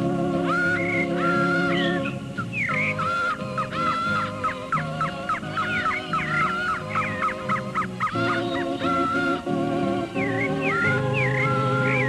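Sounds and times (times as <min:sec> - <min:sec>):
birds chirping: 0:00.0 - 0:12.0
organ playing chords: 0:00.0 - 0:12.0.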